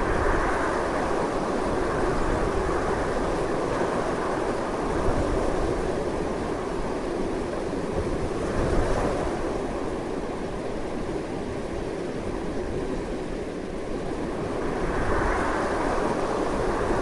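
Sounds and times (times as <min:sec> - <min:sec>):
strong wind gusting: 0:00.0 - 0:17.0.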